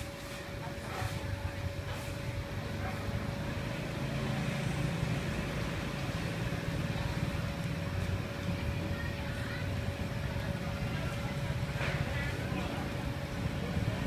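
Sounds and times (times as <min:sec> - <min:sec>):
faint hum: 0:00.0 - 0:14.0
low mechanical rumble: 0:00.0 - 0:14.0.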